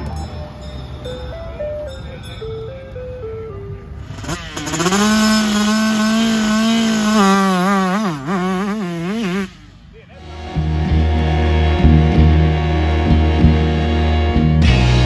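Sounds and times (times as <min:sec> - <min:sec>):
motocross bike engine revving: 0:00.0 - 0:14.9.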